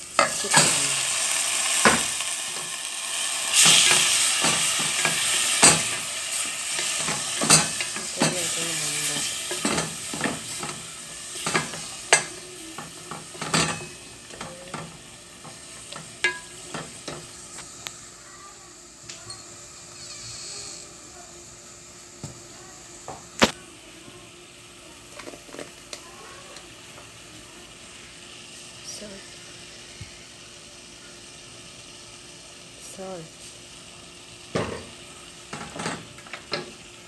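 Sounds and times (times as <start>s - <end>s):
chicken sizzling in a pot: 0.0s - 37.0s.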